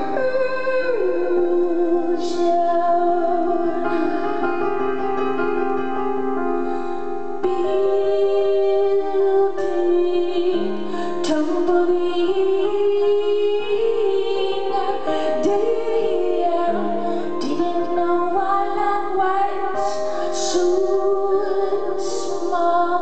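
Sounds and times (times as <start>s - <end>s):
woman singing: 0.0s - 5.6s, 7.4s - 23.0s
grand piano: 0.0s - 23.0s.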